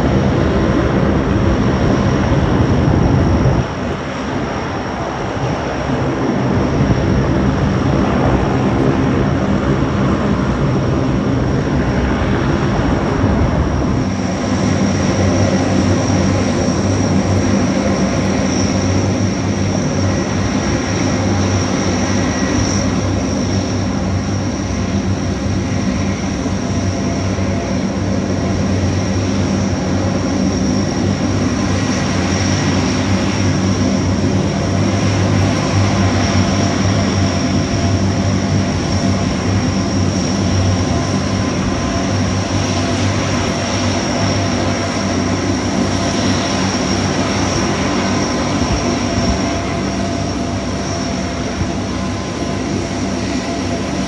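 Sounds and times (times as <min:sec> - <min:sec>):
propeller drone: 0:00.0 - 0:54.0
turbine whine: 0:00.0 - 0:54.0.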